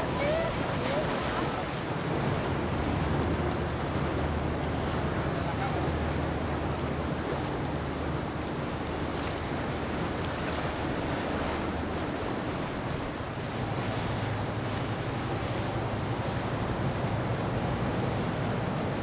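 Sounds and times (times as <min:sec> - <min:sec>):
boat engine humming: 0:00.0 - 0:19.0
water rushing: 0:00.0 - 0:19.0
wind: 0:00.0 - 0:19.0.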